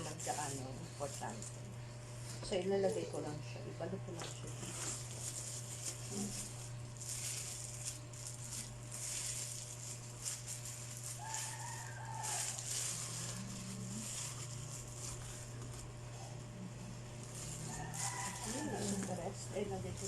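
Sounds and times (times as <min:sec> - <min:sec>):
rustling bags and wrappers: 0:00.0 - 0:03.3, 0:04.4 - 0:16.4, 0:17.0 - 0:20.0
steady low hum: 0:00.0 - 0:20.0.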